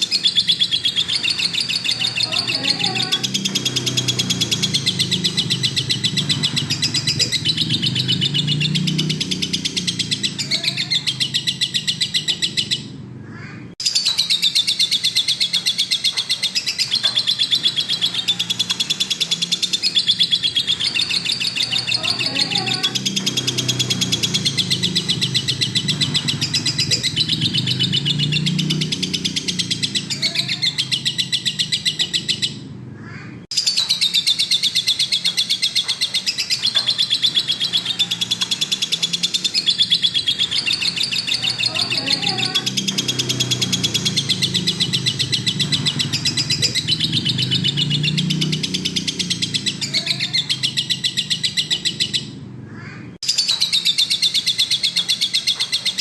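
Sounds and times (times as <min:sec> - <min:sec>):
bird chattering trill: 0:00.0 - 0:56.0.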